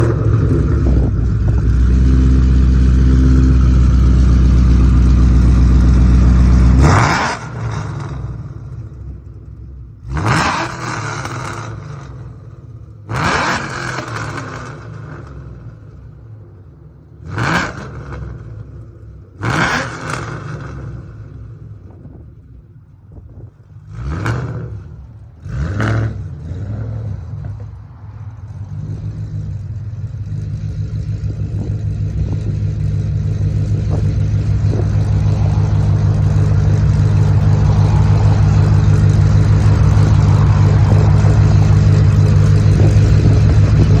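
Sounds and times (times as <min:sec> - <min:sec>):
car engine revving: 0:00.0 - 0:16.1, 0:23.8 - 0:44.0
car engine running steadily: 0:00.0 - 0:44.0.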